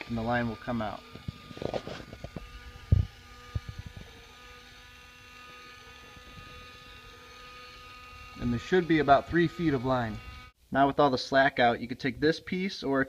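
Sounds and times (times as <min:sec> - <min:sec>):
small motor humming: 0:00.0 - 0:10.6.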